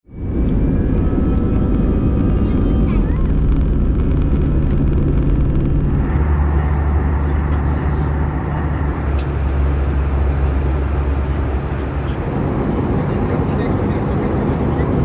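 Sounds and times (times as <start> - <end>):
aircraft low rumble and hum: 0.0 - 15.0
aircraft rushing noise: 0.2 - 15.0.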